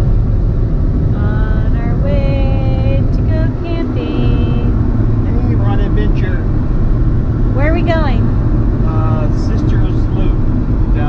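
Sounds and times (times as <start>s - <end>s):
road and engine rumble in vehicle: 0.0s - 11.0s.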